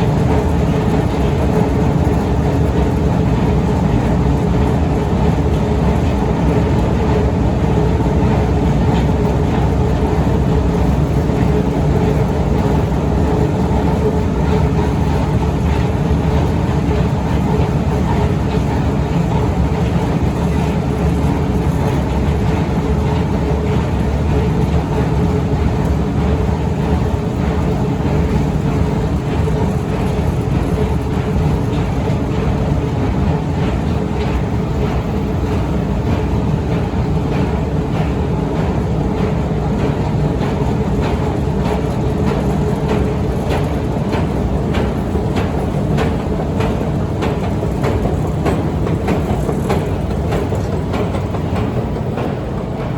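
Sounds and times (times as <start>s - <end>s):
escalator mechanical drone: 0.0s - 52.9s.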